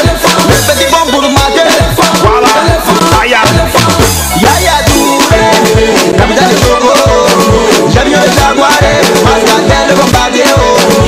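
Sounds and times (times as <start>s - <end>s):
upbeat pop music with dance beat: 0.0s - 11.0s.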